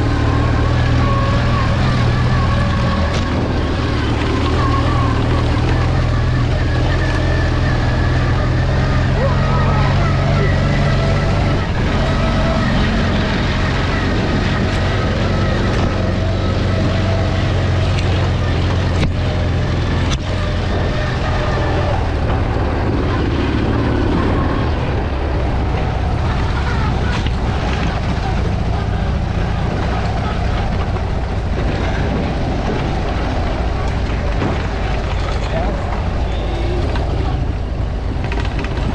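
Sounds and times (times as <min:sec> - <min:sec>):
motorcycle engine running: 0:00.0 - 0:38.9
wind and riding noise: 0:00.0 - 0:38.9.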